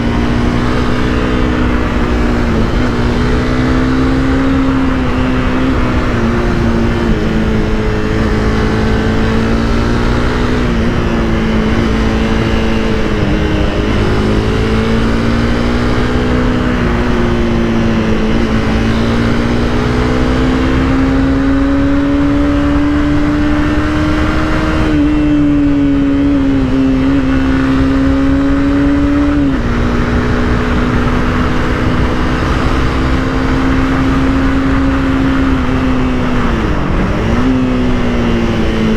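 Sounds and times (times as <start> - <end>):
motorcycle engine running: 0.0 - 38.9
riding wind rush: 0.0 - 38.9.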